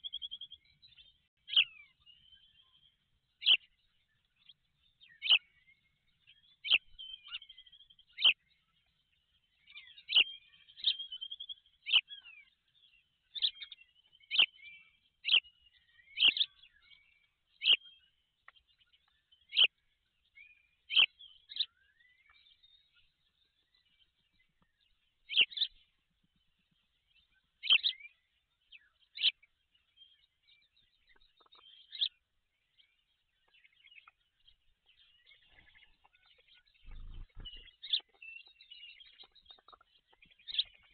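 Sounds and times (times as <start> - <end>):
birds chirping: 0.0 - 40.9
quiet bird twittering: 0.0 - 40.9.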